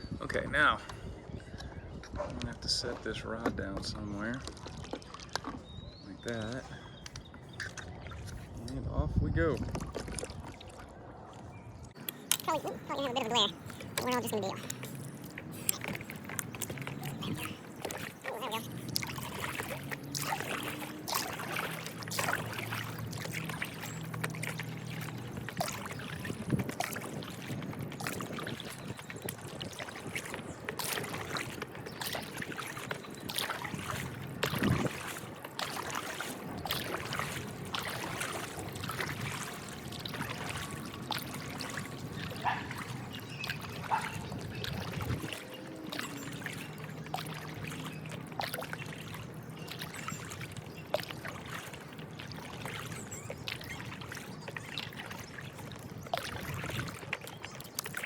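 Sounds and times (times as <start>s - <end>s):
paddle dipping in water: 0.9s - 58.0s
water trickling off paddle: 2.5s - 58.0s
small splashes: 2.7s - 8.8s, 9.4s - 58.0s.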